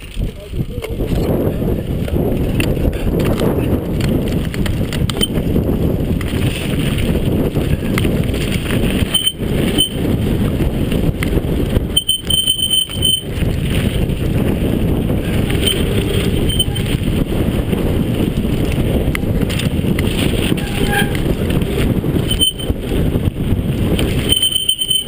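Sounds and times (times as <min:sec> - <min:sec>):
bike rattling over bumps: 0:00.0 - 0:25.0
bike tyres rumbling on gravel: 0:00.0 - 0:25.0.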